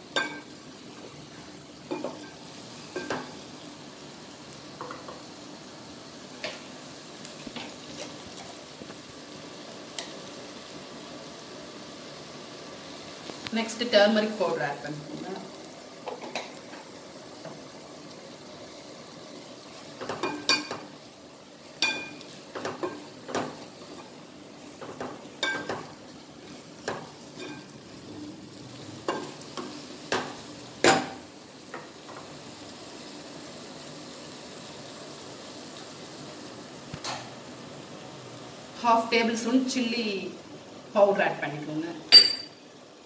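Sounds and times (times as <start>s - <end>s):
frying sizzle: 0.0s - 43.0s.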